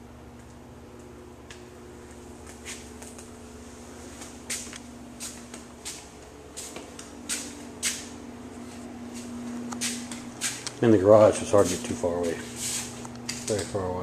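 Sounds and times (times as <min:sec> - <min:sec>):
steady low hum: 0:00.0 - 0:14.0
footsteps scuffing on concrete: 0:02.0 - 0:13.9.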